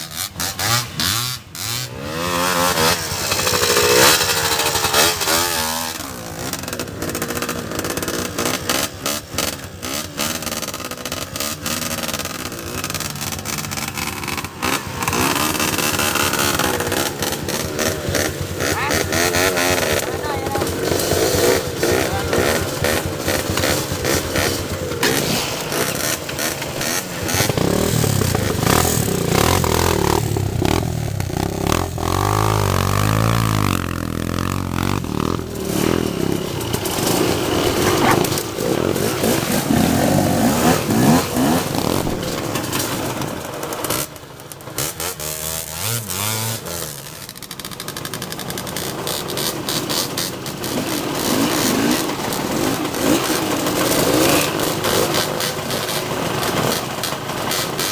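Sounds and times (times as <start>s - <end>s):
clatter: 0.0s - 57.9s
dirt bike engine revving: 0.0s - 57.9s.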